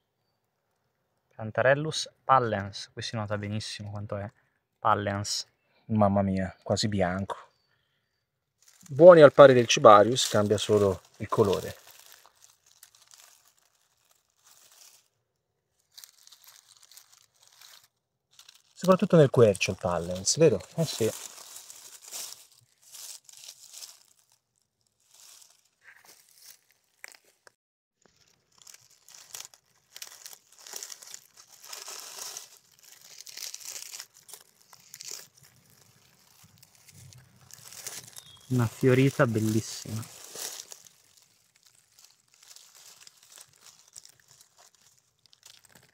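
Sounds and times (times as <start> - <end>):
dry leaves rustling: 8.6 - 45.9.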